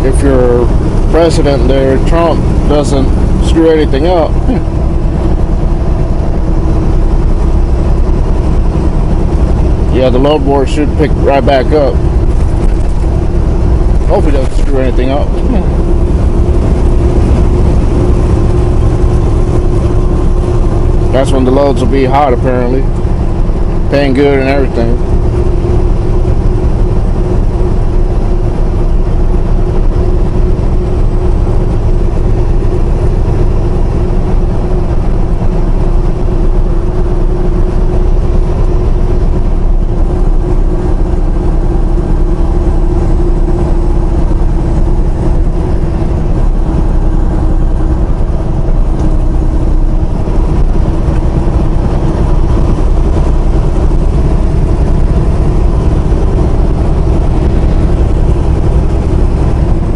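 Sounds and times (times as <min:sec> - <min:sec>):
road noise: 0:00.0 - 0:59.9
truck engine drone: 0:00.0 - 0:59.9.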